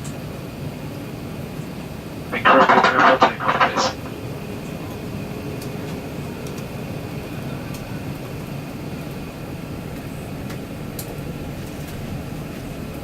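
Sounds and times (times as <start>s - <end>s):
airliner cabin rumble: 2.4s - 13.0s.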